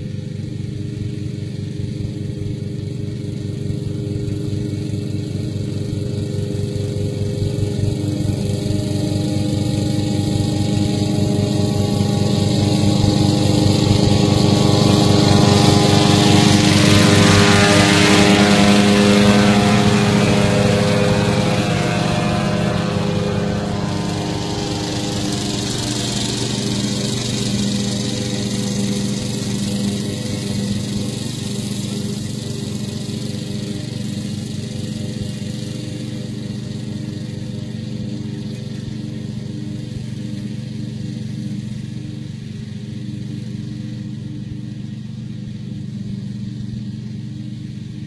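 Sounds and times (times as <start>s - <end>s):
ride-on lawn mower engine: 0.0s - 48.0s.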